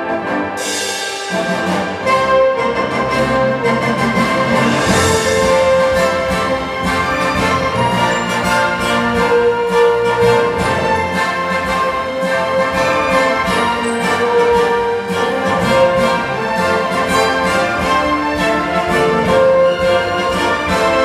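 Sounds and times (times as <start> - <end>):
orchestral film music on speakers: 0.0 - 21.0.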